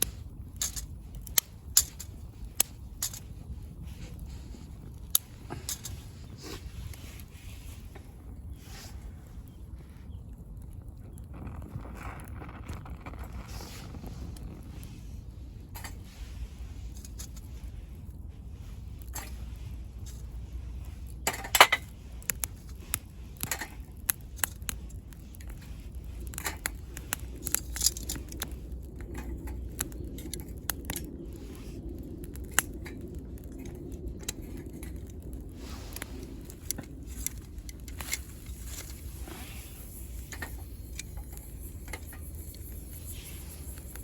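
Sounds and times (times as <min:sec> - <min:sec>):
wood crackling and popping: 0:00.0 - 0:44.0
wood stove low rumble: 0:00.0 - 0:44.0.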